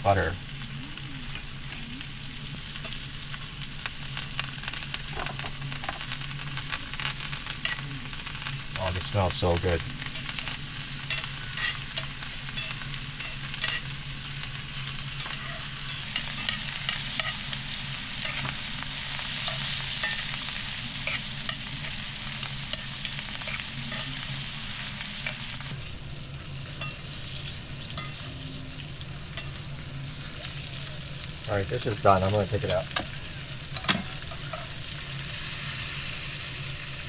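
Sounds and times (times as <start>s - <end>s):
fat spattering crackles: 0.0s - 35.0s
steak sizzling in a pan: 0.0s - 37.0s.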